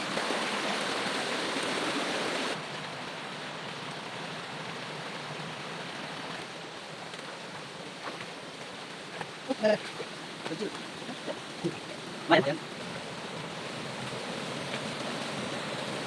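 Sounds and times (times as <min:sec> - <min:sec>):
river water flowing over rocks: 0:00.0 - 0:16.0.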